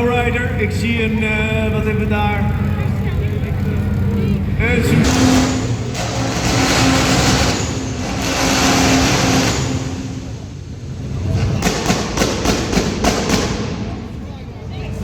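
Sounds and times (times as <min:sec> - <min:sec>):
engine revving: 0:00.0 - 0:14.2.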